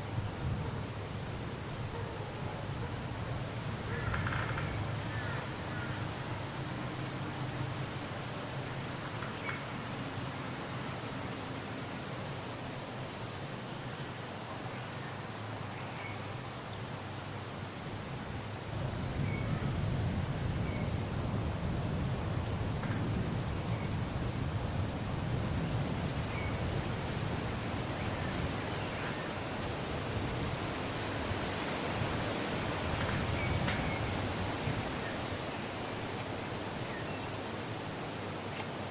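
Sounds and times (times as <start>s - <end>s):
insects chirring: 0.0s - 38.9s
pulsing insect trill: 0.0s - 38.9s.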